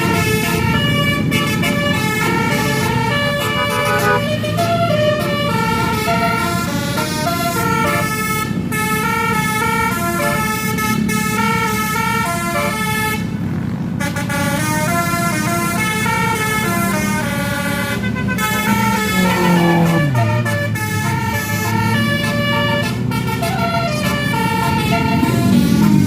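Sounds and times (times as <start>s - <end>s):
multi-tone bus horn tune: 0.0s - 26.0s.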